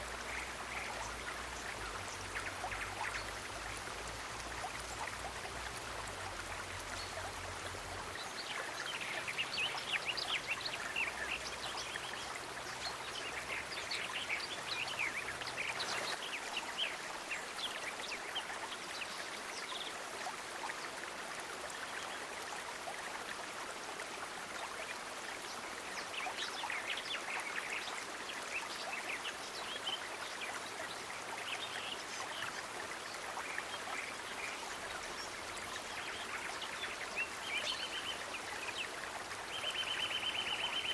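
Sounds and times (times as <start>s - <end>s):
stream trickling: 0.0s - 40.9s
water splashes and drips: 0.0s - 40.9s.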